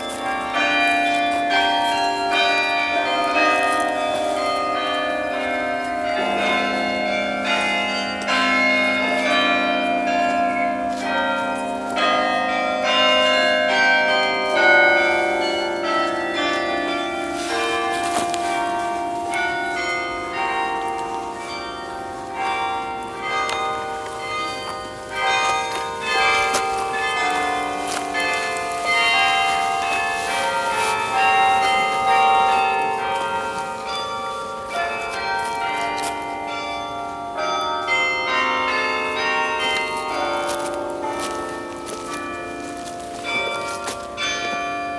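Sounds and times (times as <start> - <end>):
carillon bells playing a tune: 0.0 - 44.9.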